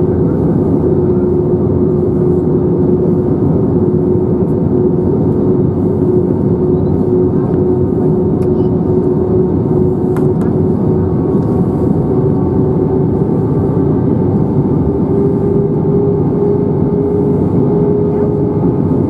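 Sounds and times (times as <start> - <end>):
airplane cabin roar: 0.0 - 19.0
engine hum: 0.0 - 19.0.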